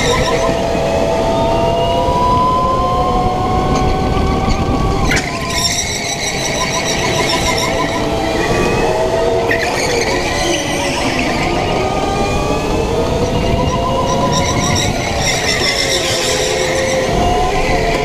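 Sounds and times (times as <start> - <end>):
go-kart motor whine: 0.0 - 18.0.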